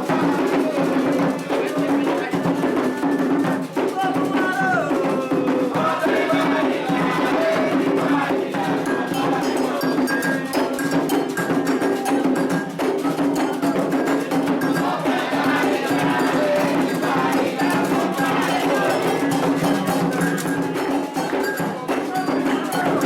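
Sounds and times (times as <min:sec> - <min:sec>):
agogo bell: 0:00.0 - 0:23.0
hand drums: 0:00.0 - 0:23.0
voices singing: 0:00.0 - 0:23.0.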